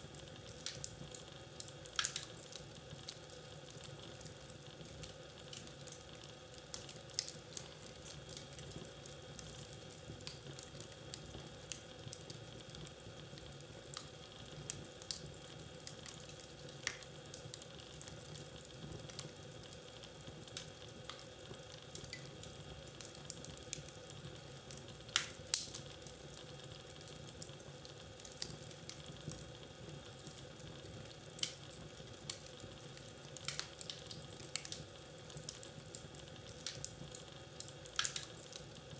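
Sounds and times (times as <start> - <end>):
fire popping and snapping: 0.0 - 38.9
wood fire crackling: 0.0 - 38.9.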